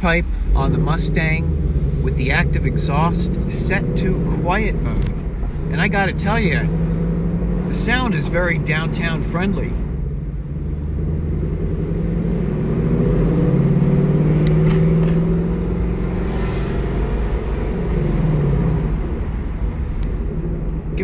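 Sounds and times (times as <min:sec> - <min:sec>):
car exhaust rumble: 0:00.0 - 0:21.0.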